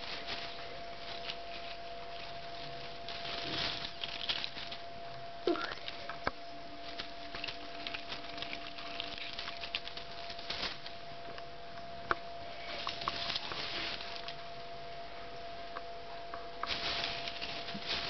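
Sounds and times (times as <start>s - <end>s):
cat rustling tree needles: 0.0s - 11.4s, 12.2s - 15.7s, 16.6s - 18.0s
faint steady hum: 0.0s - 18.0s.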